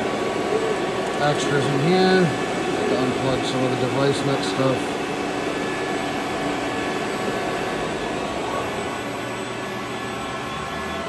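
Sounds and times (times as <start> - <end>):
machinery whirring: 0.0 - 11.0.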